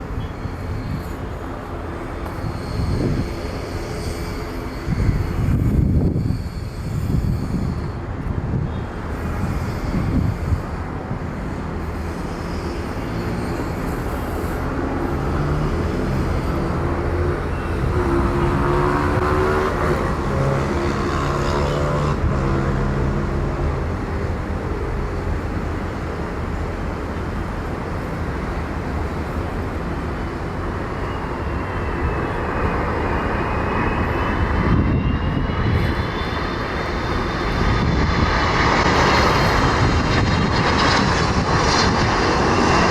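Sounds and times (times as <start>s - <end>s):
high wavering whine: 0.0s - 42.9s
jet engines running: 0.0s - 42.9s.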